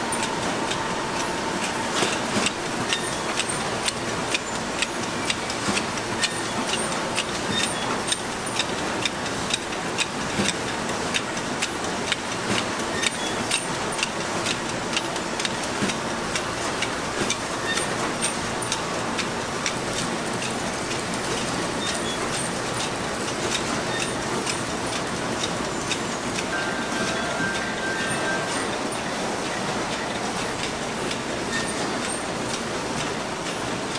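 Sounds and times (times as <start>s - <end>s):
production line mechanical hum: 0.0s - 33.9s
sharp mechanical clicks and clacks: 0.0s - 33.9s.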